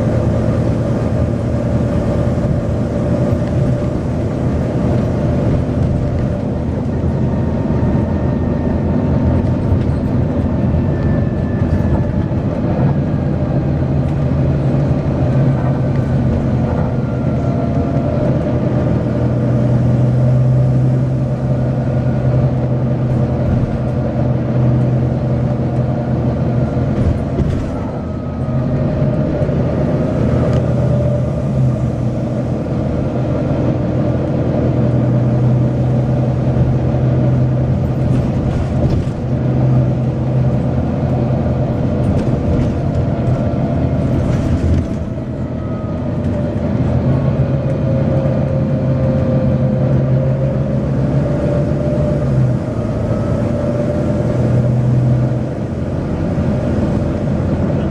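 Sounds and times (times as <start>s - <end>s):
bus diesel engine droning: 0.0s - 57.9s.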